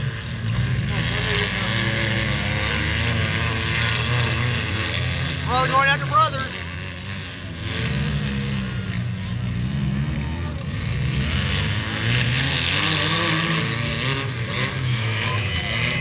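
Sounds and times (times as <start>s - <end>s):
car engines revving unevenly: 0.0s - 16.0s.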